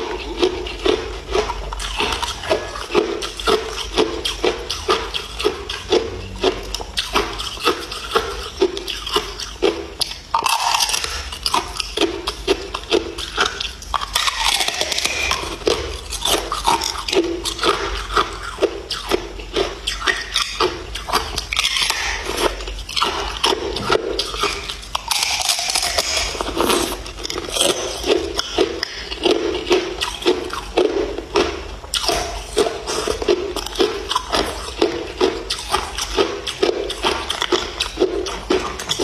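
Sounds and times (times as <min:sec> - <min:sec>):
ice crunching between teeth: 0:00.0 - 0:39.0.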